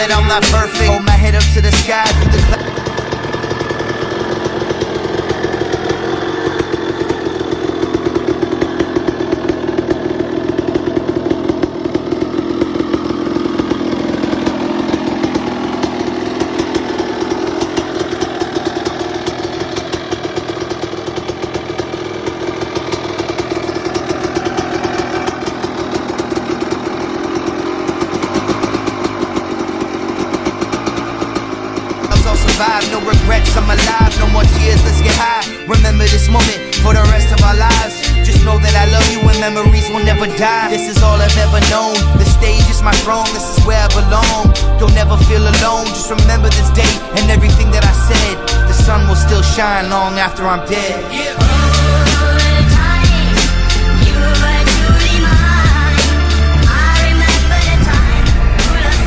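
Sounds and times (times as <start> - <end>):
dirt bike two-stroke engine running: 0.0 - 59.0.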